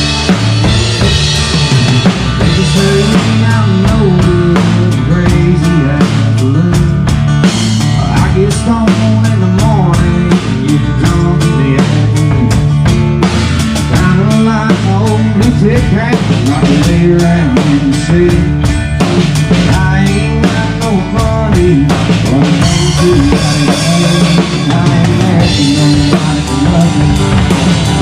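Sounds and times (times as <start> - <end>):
bass guitar notes: 0.0 - 28.0
bending lead guitar lines: 0.0 - 28.0
drum kit beat: 0.0 - 28.0
live band playing instrumental: 0.0 - 28.0.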